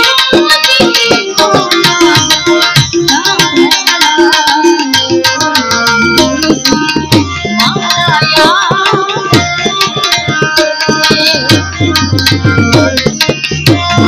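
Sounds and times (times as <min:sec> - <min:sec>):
hand drum beat: 0:00.0 - 0:14.0
harmonium melody: 0:00.0 - 0:14.0.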